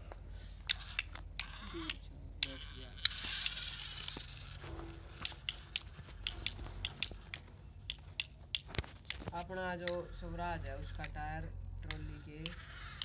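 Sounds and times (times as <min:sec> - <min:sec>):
small electric motor humming: 0:00.6 - 0:07.5, 0:09.2 - 0:13.0
sharp clicks: 0:00.6 - 0:11.2, 0:11.8 - 0:13.0.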